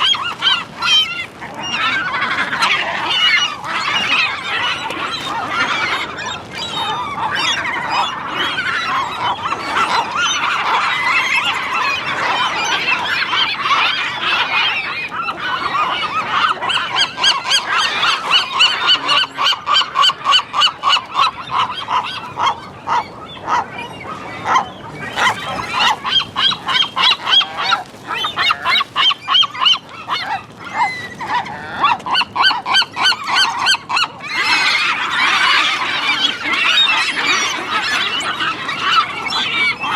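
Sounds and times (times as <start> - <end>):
gulls squawking: 0.0 - 39.9.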